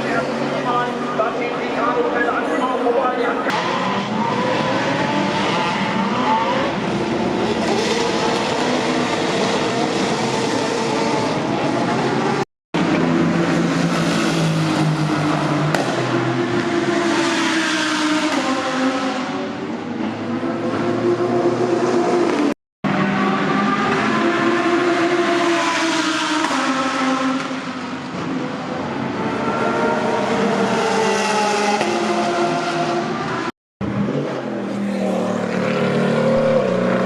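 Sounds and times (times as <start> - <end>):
racing car engines revving: 0.0 - 37.0.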